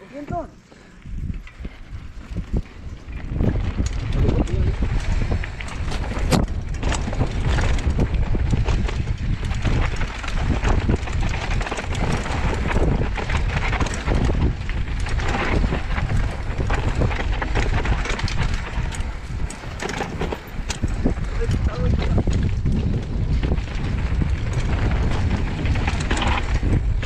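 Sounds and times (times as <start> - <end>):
bike rattles and knocks: 0.0 - 27.0
tyre noise on dirt: 0.0 - 27.0
wind rumble on microphone: 0.0 - 27.0.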